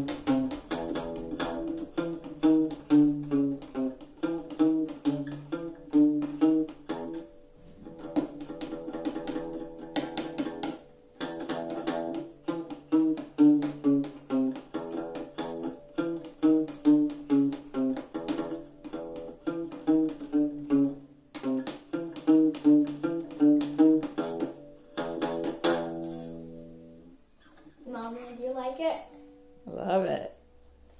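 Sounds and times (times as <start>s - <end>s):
acoustic guitar notes picked: 0.0s - 28.1s.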